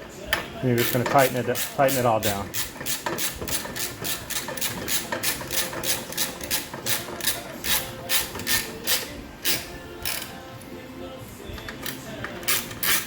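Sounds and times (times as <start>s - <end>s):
hand ratchet clicking: 0.3s - 10.4s, 11.6s - 13.0s.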